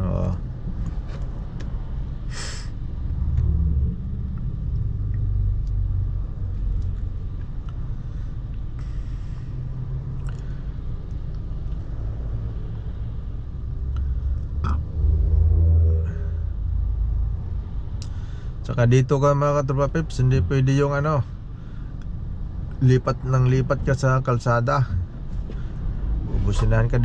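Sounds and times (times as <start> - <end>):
car engine rumble: 0.0 - 27.0
road noise inside car: 0.0 - 27.0.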